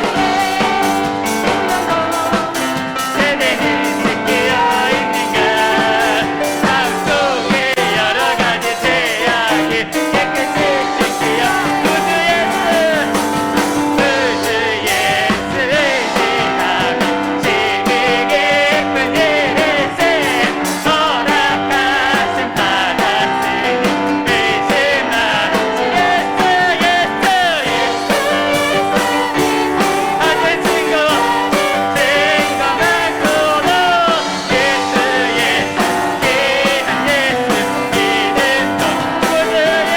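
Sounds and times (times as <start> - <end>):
drums: 0.0 - 39.9
piano: 0.0 - 39.9
voices singing: 0.0 - 39.9.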